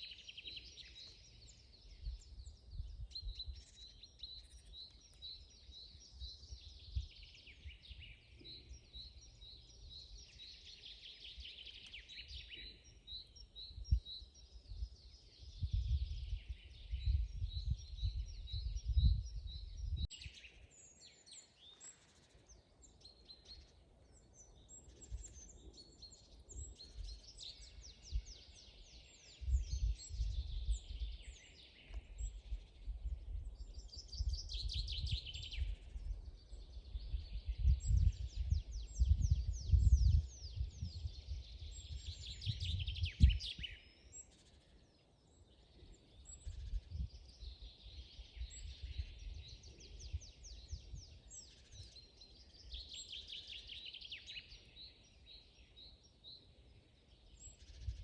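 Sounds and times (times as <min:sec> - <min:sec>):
songbirds singing trills: 0:00.0 - 0:58.0.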